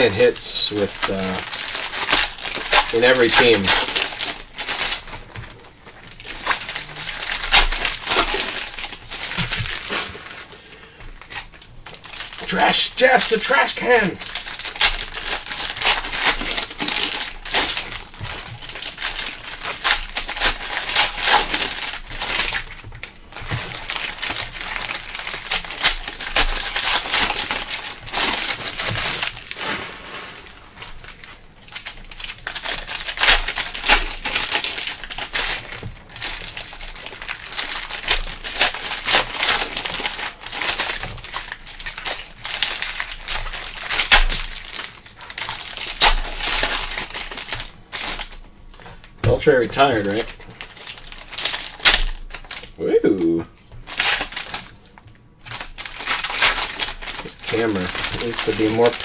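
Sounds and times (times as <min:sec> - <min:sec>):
plastic wrappers crinkling: 0:00.0 - 0:59.0.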